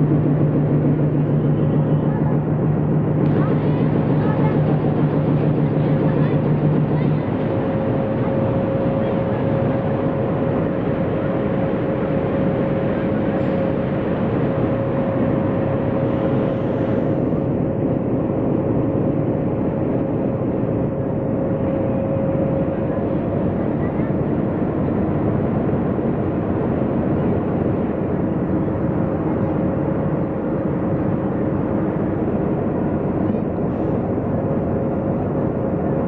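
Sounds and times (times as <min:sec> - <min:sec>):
high whine: 0:00.0 - 0:36.0
low hum: 0:00.0 - 0:36.0
passenger train running: 0:00.0 - 0:36.0.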